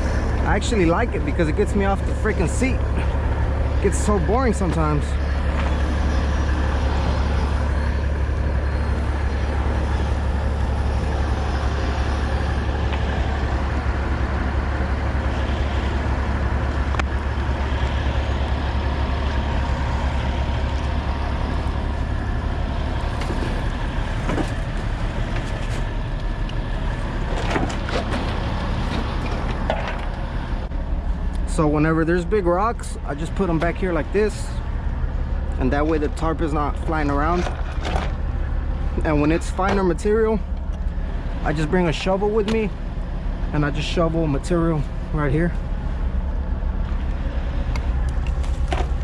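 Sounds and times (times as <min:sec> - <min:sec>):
diesel truck engine idling: 0:00.0 - 0:49.0.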